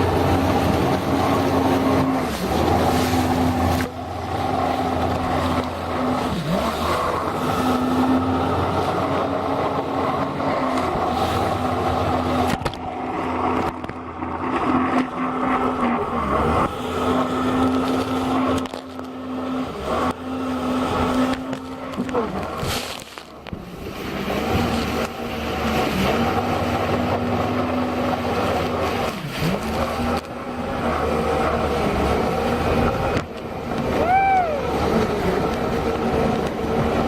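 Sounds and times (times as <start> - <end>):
jet ski engine running: 0.0 - 37.0
water rushing: 0.0 - 37.0
wind: 0.0 - 37.0.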